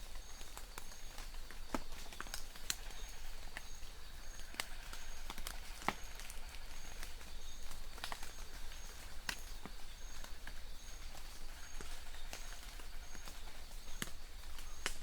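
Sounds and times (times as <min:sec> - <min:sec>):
rain dripping: 0:00.1 - 0:15.0.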